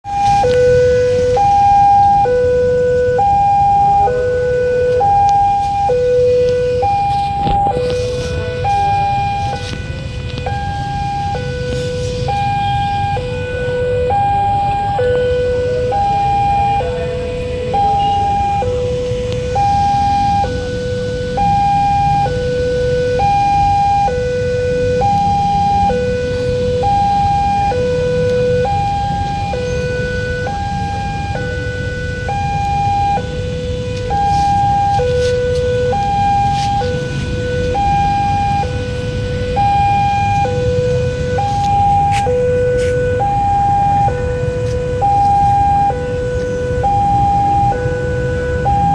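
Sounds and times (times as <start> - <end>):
steady low rumble: 0.0 - 48.9
two-tone warning siren: 0.0 - 48.9.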